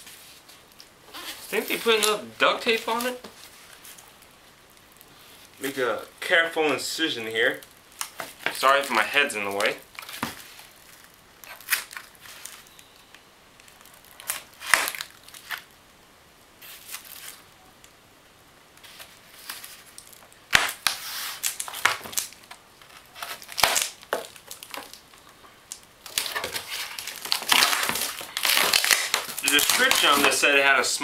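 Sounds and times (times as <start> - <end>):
plastic packaging crinkling and tearing: 0.4 - 5.9, 7.3 - 15.8, 16.6 - 17.6, 18.8 - 31.0.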